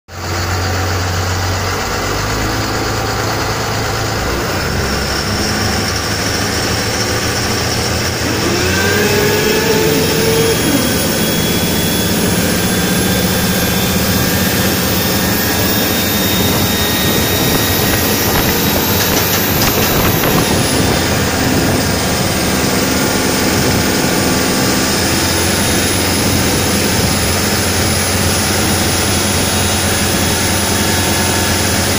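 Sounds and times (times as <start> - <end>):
high whine: 0.1 - 31.9
marine diesel engine running: 0.1 - 31.9.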